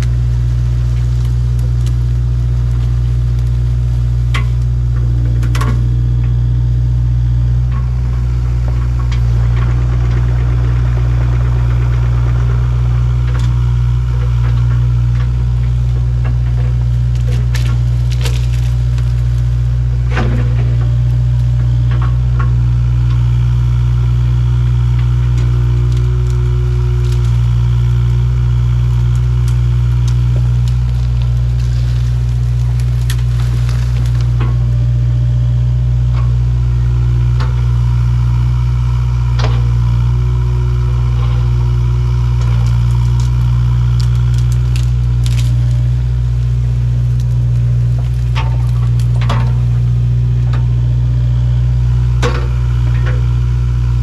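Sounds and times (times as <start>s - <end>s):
branches cracking and snapping: 0.0s - 6.8s, 7.6s - 54.0s
excavator diesel engine running: 0.0s - 54.0s.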